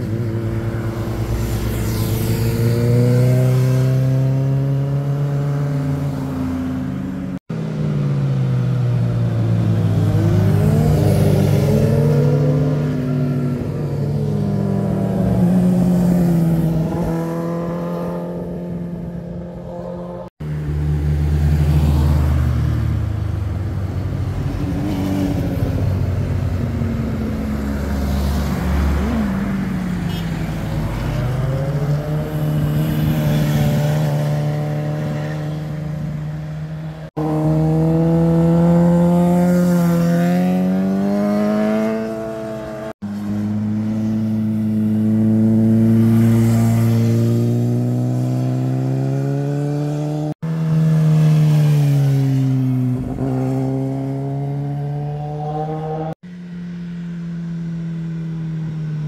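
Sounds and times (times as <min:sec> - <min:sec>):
car passing: 0:00.0 - 0:07.4, 0:08.3 - 0:59.0
motorcycle engines revving: 0:00.0 - 0:59.0.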